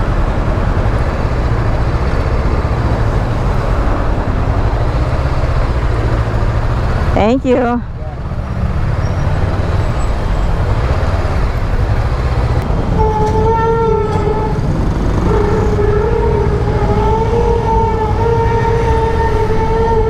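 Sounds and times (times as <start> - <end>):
heavy wind rumble: 0.0 - 20.0
motorcycle engine accelerating: 0.0 - 20.0.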